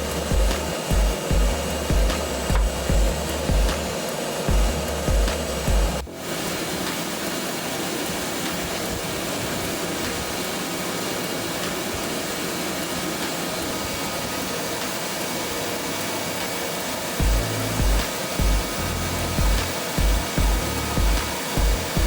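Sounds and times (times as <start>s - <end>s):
machinery running: 0.0s - 22.0s.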